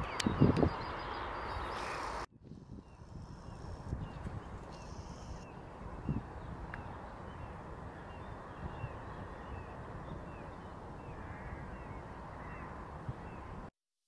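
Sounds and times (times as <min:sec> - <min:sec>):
bird chirps: 0:00.0 - 0:02.2, 0:02.8 - 0:13.5.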